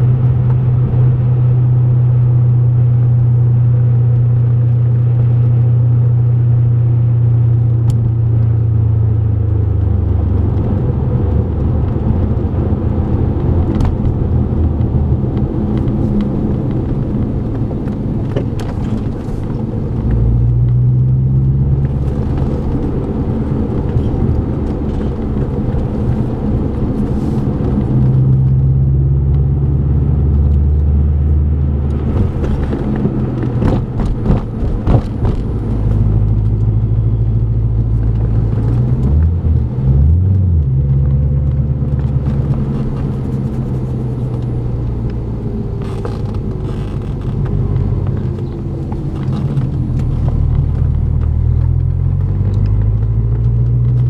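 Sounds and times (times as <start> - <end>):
car engine running: 0.0 - 54.0
road rumble: 0.0 - 54.0.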